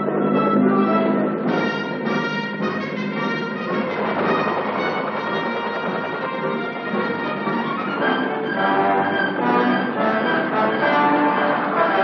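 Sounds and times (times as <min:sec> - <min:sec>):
orchestral strings chords: 0:00.0 - 0:12.0.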